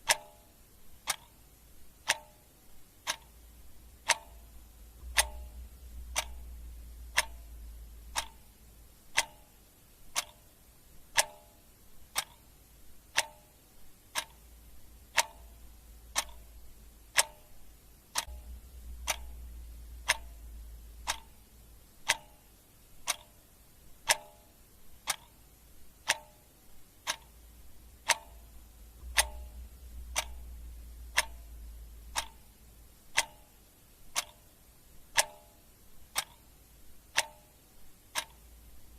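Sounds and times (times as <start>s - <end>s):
clock ticking: 0.0s - 38.9s
faint low hum: 0.0s - 38.9s.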